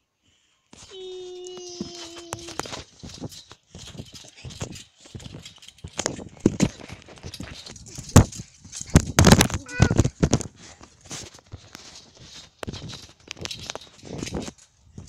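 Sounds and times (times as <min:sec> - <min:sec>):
boots thumping on trampoline: 0:00.8 - 0:15.0.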